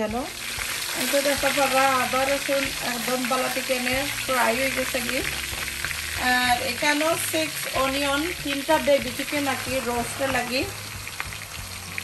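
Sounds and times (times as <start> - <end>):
paste sizzling in a wok: 0.0 - 12.0.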